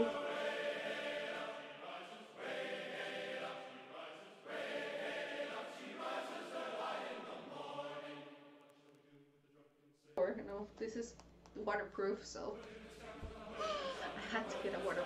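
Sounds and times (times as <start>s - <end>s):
choir singing chords: 0.0s - 10.2s, 12.5s - 15.0s.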